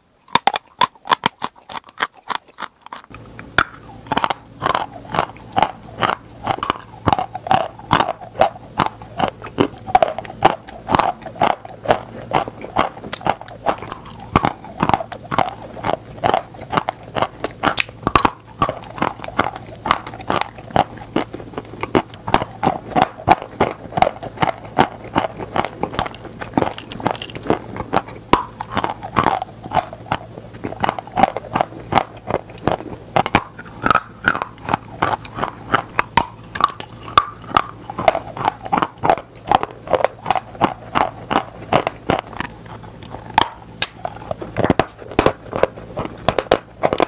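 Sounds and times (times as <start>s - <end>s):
person chewing chalk crunches: 0.0s - 47.0s.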